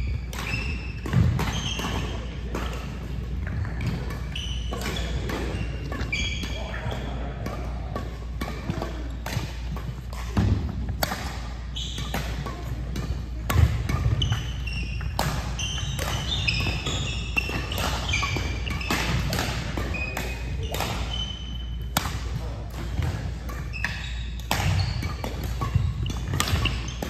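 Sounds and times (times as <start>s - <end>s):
sneakers squeaking on floor: 0.0s - 27.0s
rackets striking shuttlecock: 0.1s - 27.0s.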